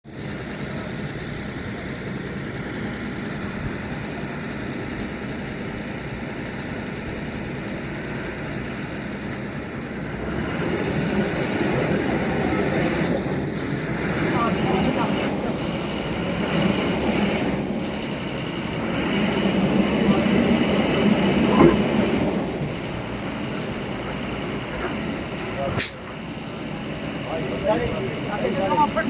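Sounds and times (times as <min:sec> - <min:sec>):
road noise: 0:00.0 - 0:29.0
vehicle engine: 0:00.0 - 0:29.0.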